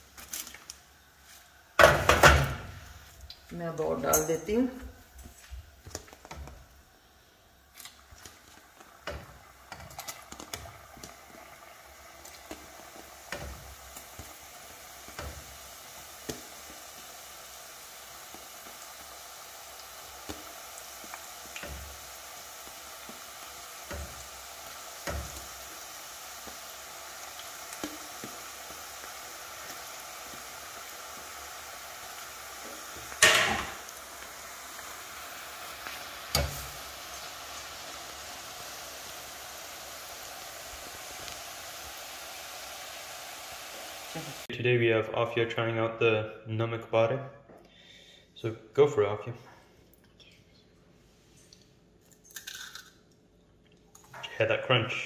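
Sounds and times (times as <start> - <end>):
dough deep-frying in hot oil: 0.0 - 44.5.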